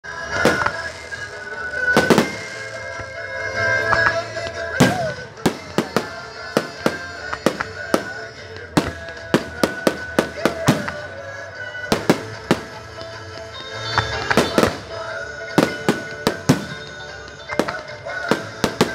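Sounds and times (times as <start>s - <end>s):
music playing: 0.0s - 18.9s
fireworks bangs: 0.2s - 18.9s.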